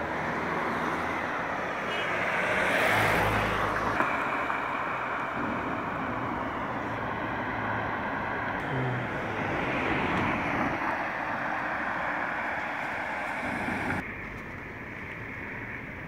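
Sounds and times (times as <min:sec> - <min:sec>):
vehicle passing: 0:00.0 - 0:14.0
traffic on wet road: 0:00.0 - 0:16.0.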